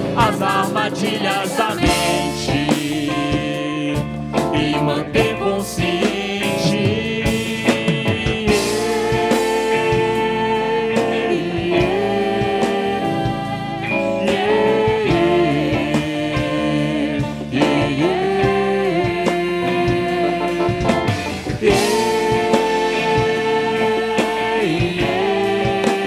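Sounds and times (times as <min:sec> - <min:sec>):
drum kit keeping time: 0:00.0 - 0:26.0.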